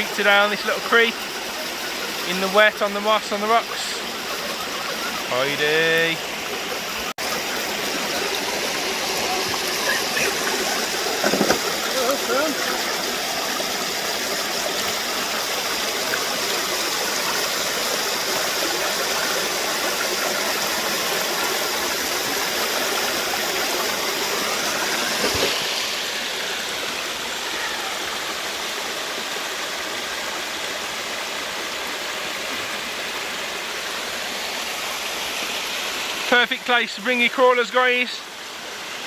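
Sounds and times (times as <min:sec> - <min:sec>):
creek water rushing over rocks: 0:00.0 - 0:39.0.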